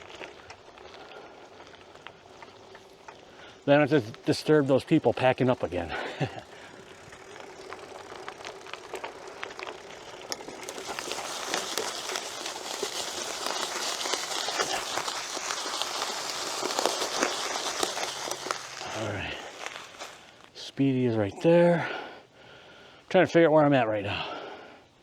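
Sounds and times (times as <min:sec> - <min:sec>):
bike tyres crunching over leaves: 0:00.0 - 0:22.5.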